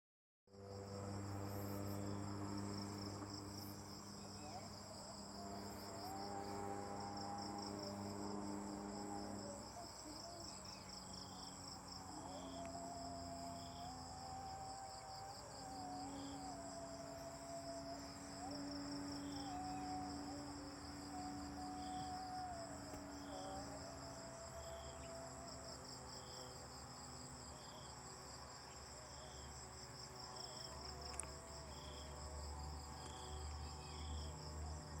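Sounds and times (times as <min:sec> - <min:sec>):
insects trilling: 0:00.6 - 0:35.0.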